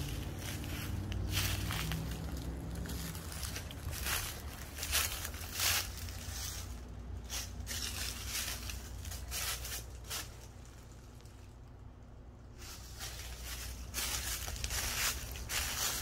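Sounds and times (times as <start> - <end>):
footsteps on dry leaves: 0.0 - 11.4, 12.5 - 16.0
steady low rumble: 0.0 - 16.0.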